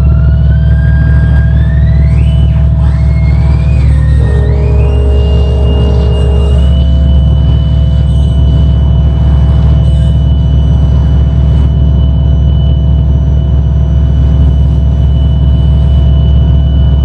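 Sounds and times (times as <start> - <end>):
synthesizer drone: 0.0 - 17.0.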